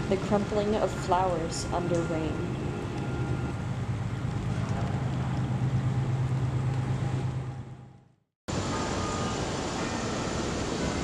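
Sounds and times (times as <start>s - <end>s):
low steady hum: 0.0s - 11.0s
outdoor ambience: 0.0s - 11.0s.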